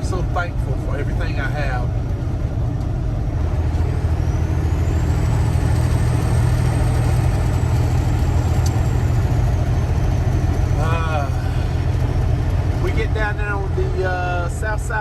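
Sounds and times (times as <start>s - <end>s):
truck diesel engine: 0.0s - 15.0s.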